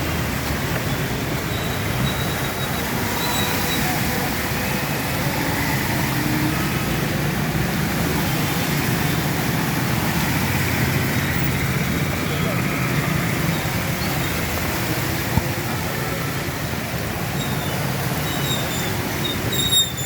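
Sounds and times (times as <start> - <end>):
traffic with engines running: 0.0 - 20.0.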